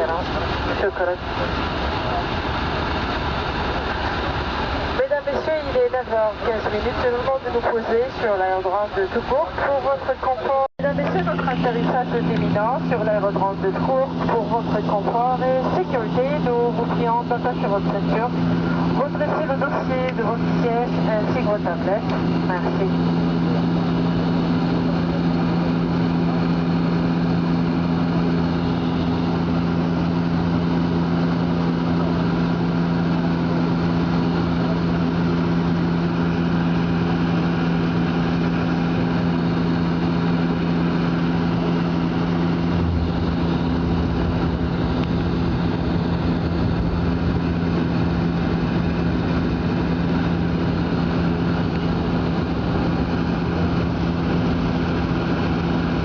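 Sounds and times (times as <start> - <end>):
airliner engine drone: 0.0 - 56.0
deep rumble: 10.5 - 56.0.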